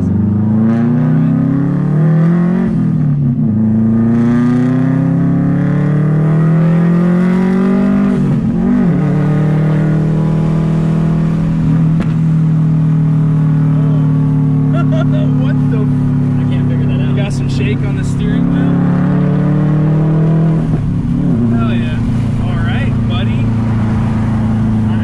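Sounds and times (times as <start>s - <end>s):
car engine accelerating through gears: 0.0s - 25.0s.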